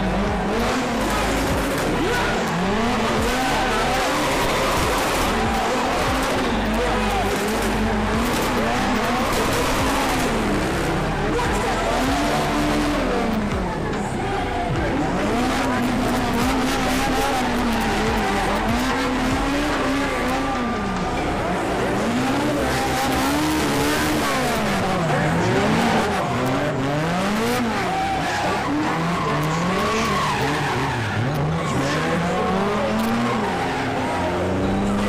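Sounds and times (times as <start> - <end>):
car engine revving: 0.0 - 35.0
tyres squealing and skidding: 0.0 - 35.0.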